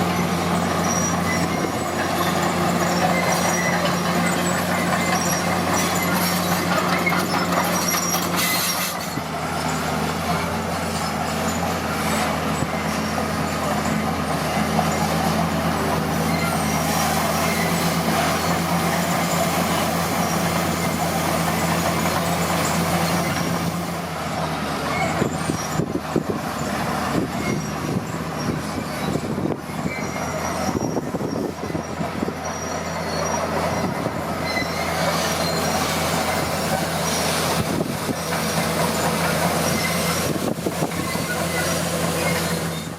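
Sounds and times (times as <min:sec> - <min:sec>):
diesel engine running: 0:00.0 - 0:42.9
steel tracks clanking and squealing: 0:00.0 - 0:42.9.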